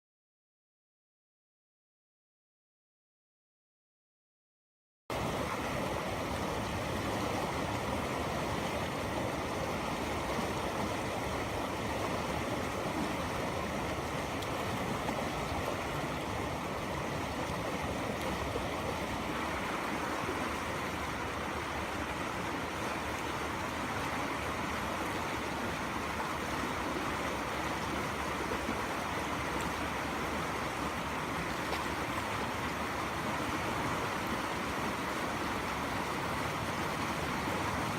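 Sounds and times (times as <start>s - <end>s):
river water rushing: 5.1s - 37.9s.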